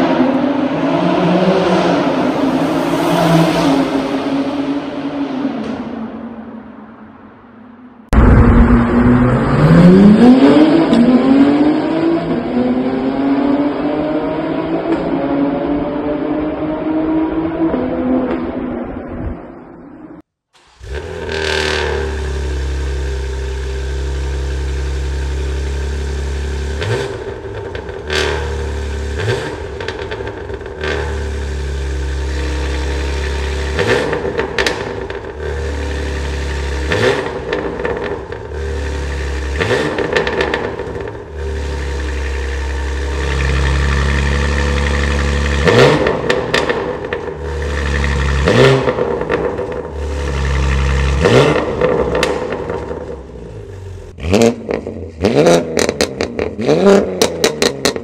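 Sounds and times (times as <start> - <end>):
car engine idling and revving: 8.0 - 18.5, 20.6 - 58.0.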